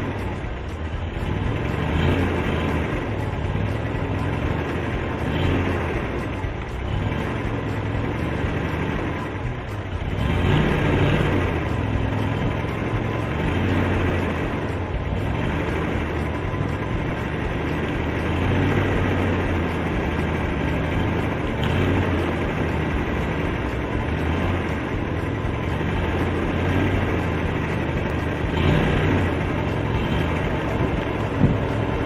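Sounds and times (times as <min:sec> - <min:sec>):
motor rumbling: 0:00.0 - 0:32.0.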